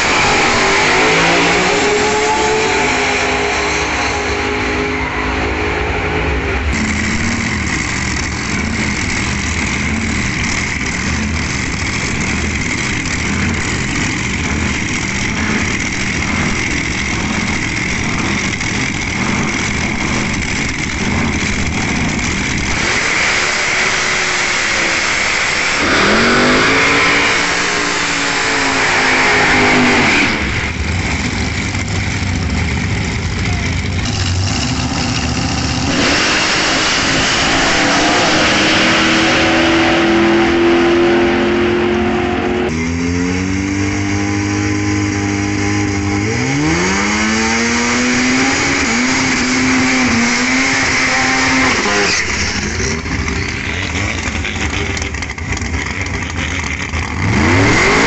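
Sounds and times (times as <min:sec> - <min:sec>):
drag racing car engine revving: 0:00.0 - 0:58.0.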